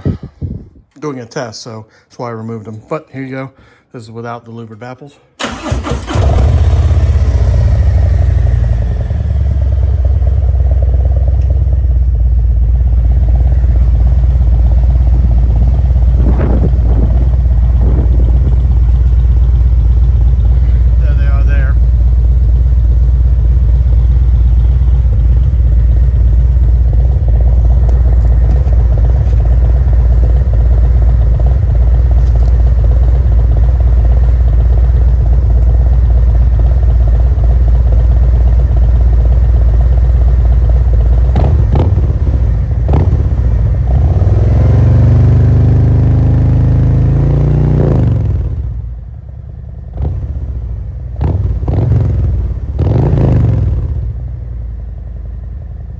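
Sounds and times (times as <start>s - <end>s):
motorcycle engine revving: 5.4s - 49.2s, 49.8s - 54.7s
motorcycle engine idling: 5.4s - 55.9s.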